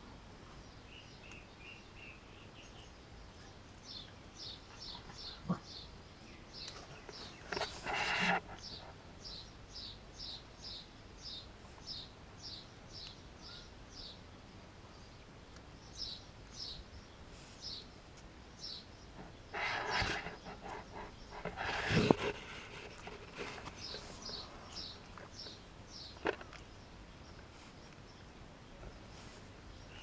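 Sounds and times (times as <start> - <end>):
bird chirping: 0.8 - 15.2, 18.6 - 30.0.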